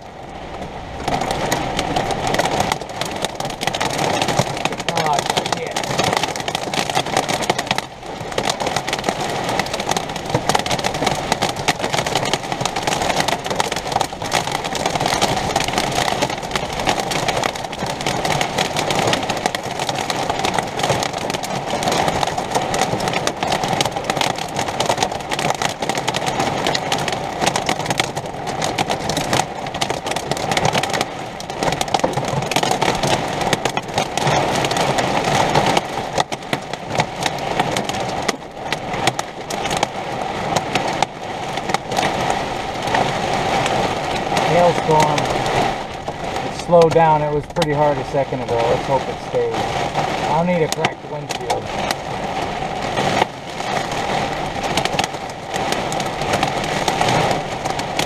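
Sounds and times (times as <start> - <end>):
hail and rain drumming on roof: 0.0 - 58.0.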